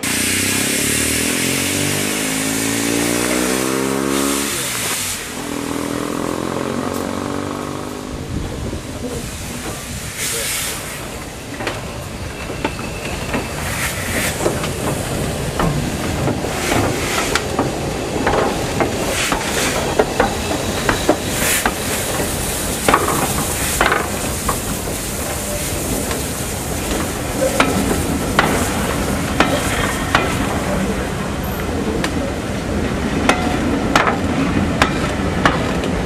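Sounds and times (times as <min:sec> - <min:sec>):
steam train rushing past: 0:00.0 - 0:36.0
wheels clanking on track: 0:02.1 - 0:36.0.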